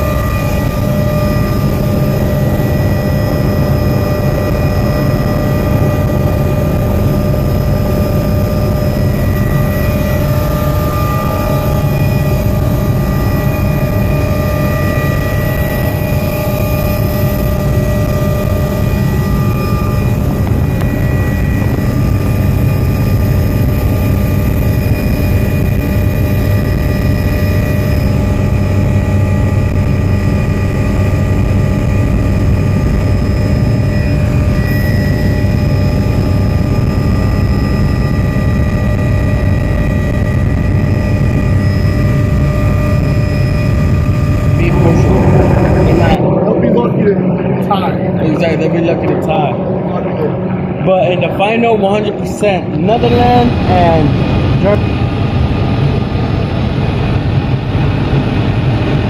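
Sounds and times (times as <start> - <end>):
helicopter drone: 0.0 - 59.0
high whine: 0.0 - 59.0.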